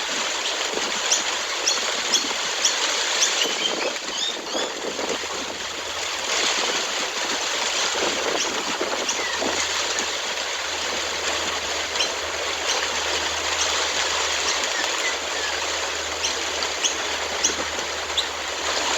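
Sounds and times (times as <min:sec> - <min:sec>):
running water: 0:00.0 - 0:18.9.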